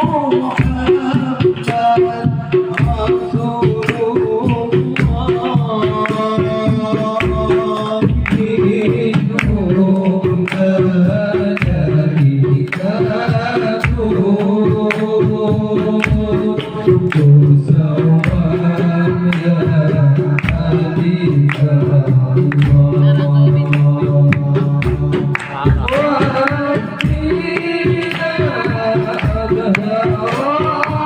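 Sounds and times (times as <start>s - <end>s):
hand drum strokes and slaps: 0.0s - 31.0s
voices singing devotional melody: 0.0s - 31.0s.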